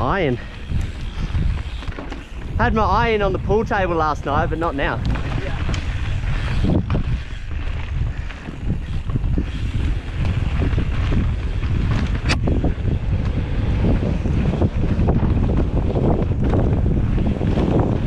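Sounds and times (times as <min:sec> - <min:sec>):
bike rattling over bumps: 0:00.0 - 0:18.0
tyres rolling on dirt trail: 0:00.0 - 0:18.0
wind buffeting microphone: 0:00.0 - 0:18.0.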